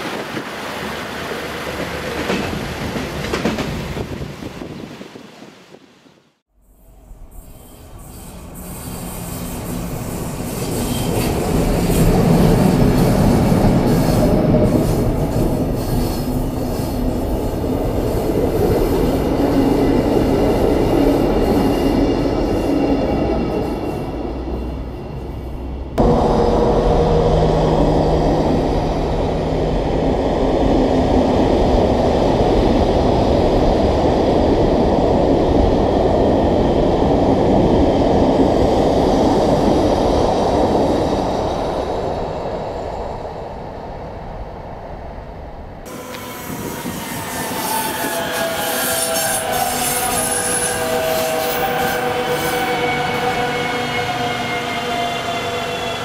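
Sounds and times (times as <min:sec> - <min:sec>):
freight train wheels rumbling: 0:00.0 - 0:05.8, 0:06.6 - 0:56.0
electric train rumbling on rails: 0:00.0 - 0:56.0.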